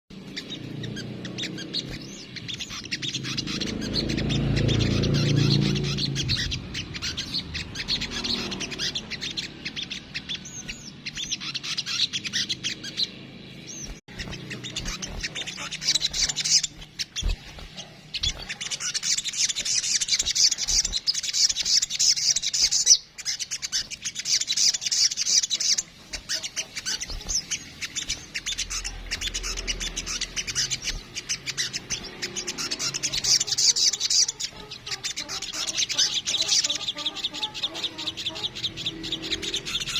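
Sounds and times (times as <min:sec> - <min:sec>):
sunbird singing: 0:00.1 - 0:39.9
bird chattering high chirps: 0:00.2 - 0:39.9.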